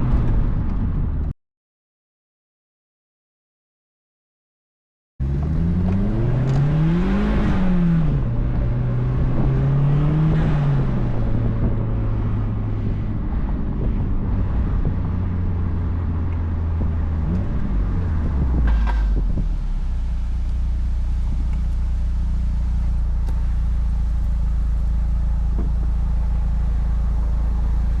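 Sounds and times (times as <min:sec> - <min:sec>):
car engine revving: 0:05.2 - 0:28.0.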